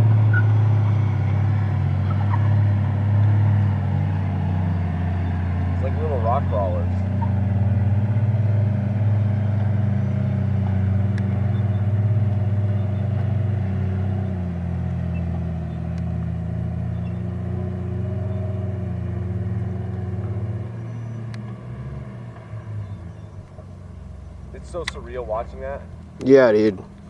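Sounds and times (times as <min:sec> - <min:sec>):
vehicle engine low drone: 0:00.0 - 0:27.0.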